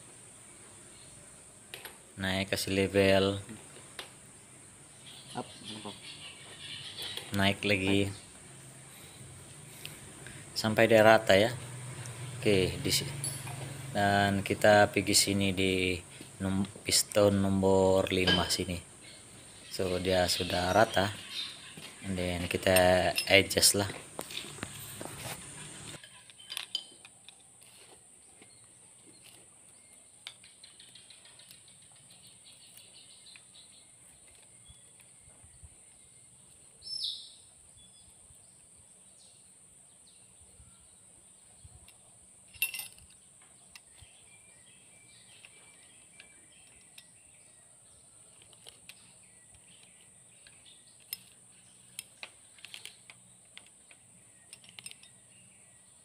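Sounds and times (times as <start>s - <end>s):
birds chirping: 0.0s - 56.0s
steady high-pitched hiss: 0.0s - 56.0s.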